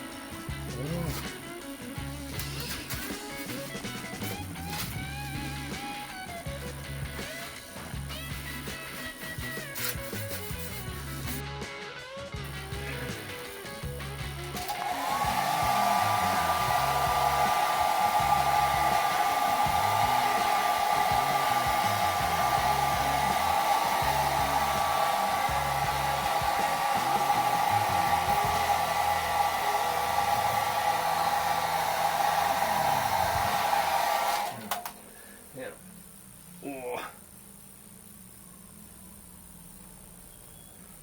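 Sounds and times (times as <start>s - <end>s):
electric blower motor whine: 0.0s - 41.0s.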